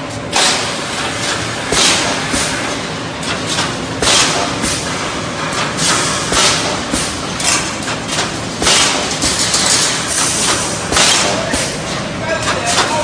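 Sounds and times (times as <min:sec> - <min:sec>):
steady mechanical noise: 0:00.0 - 0:13.0
welding head bursts with thuds: 0:00.3 - 0:11.8.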